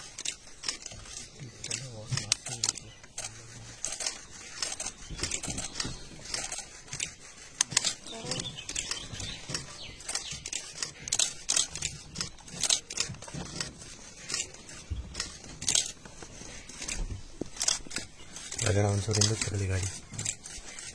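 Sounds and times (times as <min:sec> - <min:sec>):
rustling: 0:00.0 - 0:20.9
sharp clicks: 0:00.0 - 0:20.9.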